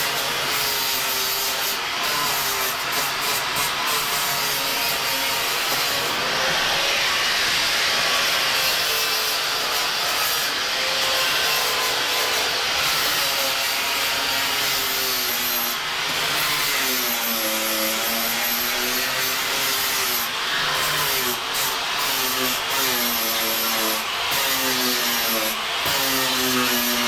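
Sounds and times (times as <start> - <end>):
power tool grinding metal: 0.0 - 27.0.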